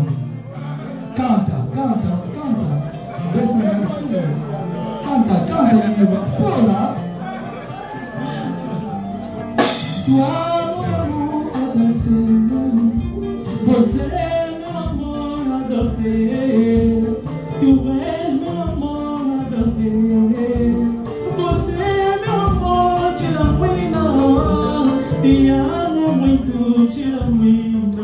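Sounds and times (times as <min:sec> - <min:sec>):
man singing: 0:00.0 - 0:07.4, 0:08.2 - 0:28.0
acoustic guitars: 0:00.0 - 0:28.0.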